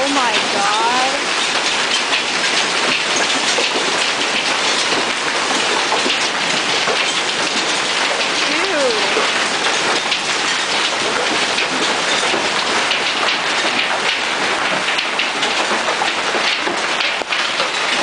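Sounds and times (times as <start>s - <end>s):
hail and heavy rain pelting: 0.0s - 18.0s.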